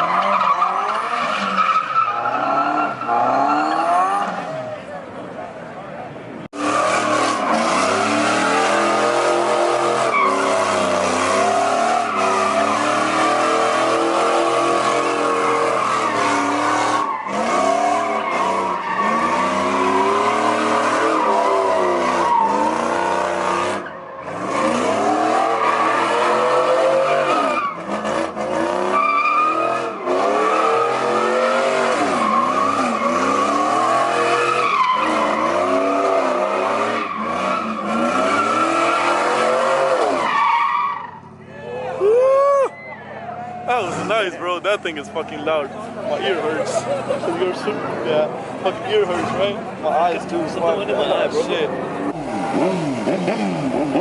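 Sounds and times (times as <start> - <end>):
tire squeal: 0.0 - 4.9, 6.6 - 44.3, 50.2 - 54.0
car engine revving: 6.5 - 41.2, 43.7 - 54.0.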